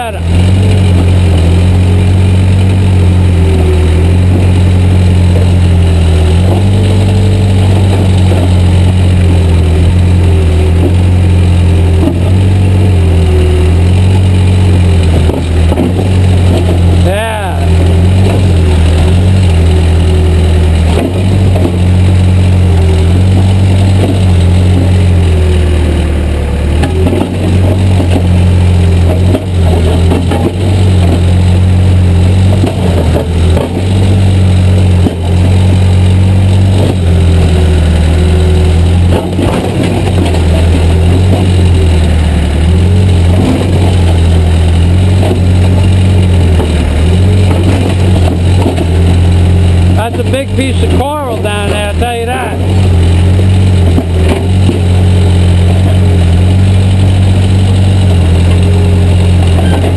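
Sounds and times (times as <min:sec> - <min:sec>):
backhoe diesel engine running: 0:00.0 - 0:59.9
hydraulic whine: 0:00.0 - 0:59.9.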